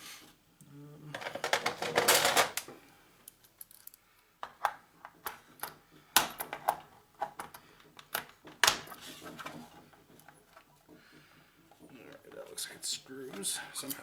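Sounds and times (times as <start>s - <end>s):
clicks and knocks of parts: 1.2s - 12.6s.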